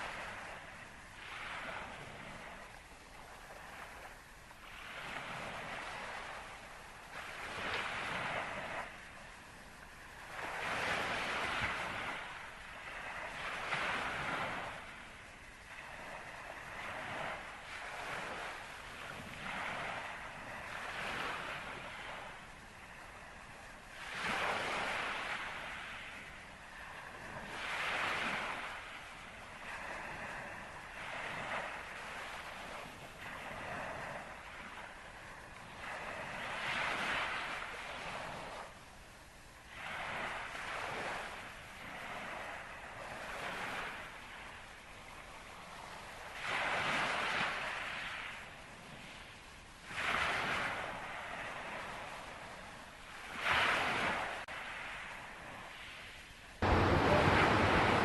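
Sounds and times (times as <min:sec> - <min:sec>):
wind on microphone: 0:00.0 - 0:38.9, 0:39.7 - 0:58.0
waves washing: 0:00.0 - 0:58.0.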